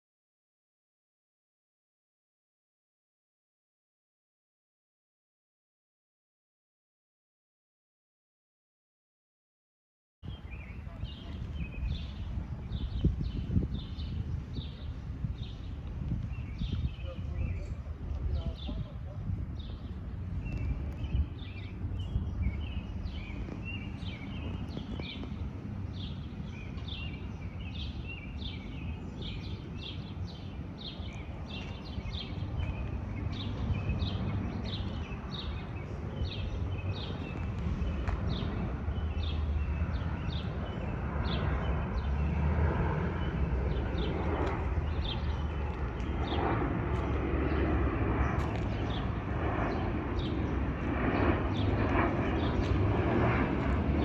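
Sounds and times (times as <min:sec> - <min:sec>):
steady low rumble: 0:10.2 - 0:54.0
airliner jet noise: 0:10.3 - 0:54.0.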